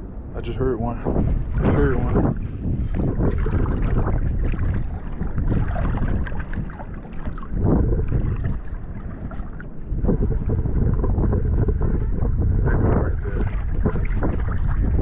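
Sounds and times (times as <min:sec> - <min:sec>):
water sloshing and splashing: 0:00.0 - 0:15.0
wind rumbling on microphone: 0:00.0 - 0:15.0.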